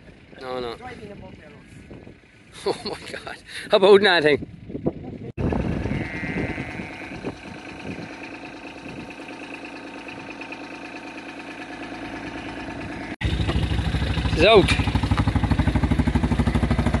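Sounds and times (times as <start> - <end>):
utility vehicle engine idling: 0.0 - 17.0.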